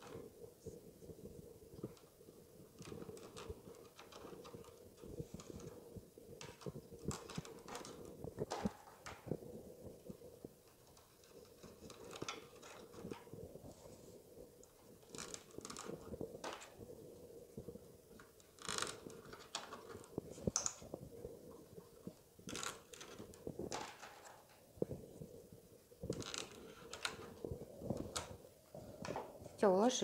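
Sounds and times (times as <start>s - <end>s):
paper tubes rustling on wood: 0.0s - 29.5s
sharp scratches and clicks: 0.0s - 29.7s.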